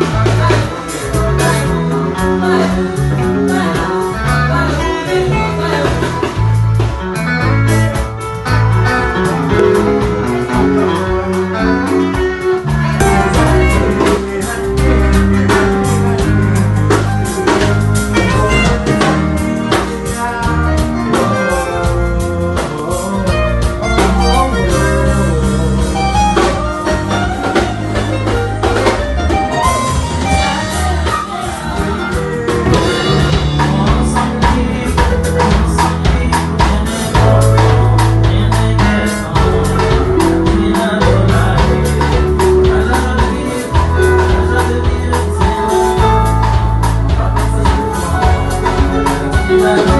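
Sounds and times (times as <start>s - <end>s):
song with drums bass and guitar: 0.0s - 49.9s.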